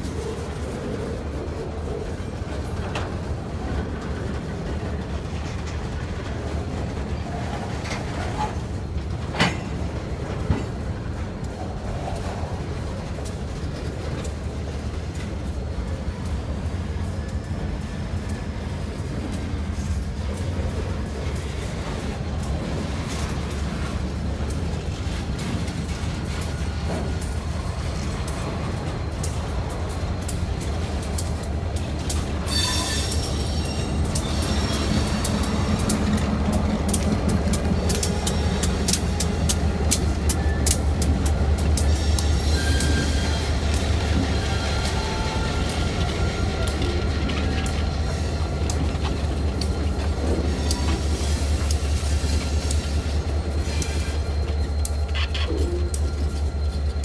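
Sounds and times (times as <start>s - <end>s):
diesel locomotive engine drone: 0.0s - 57.0s
steel wheels rumbling on rail: 0.0s - 57.0s.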